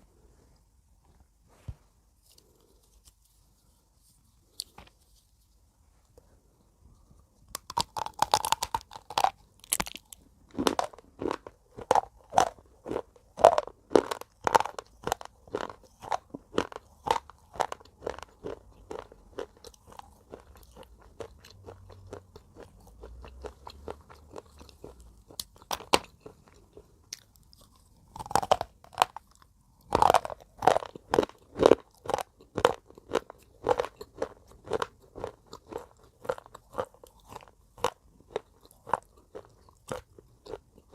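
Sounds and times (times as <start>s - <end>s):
chewing crisp crunches: 7.6s - 40.9s.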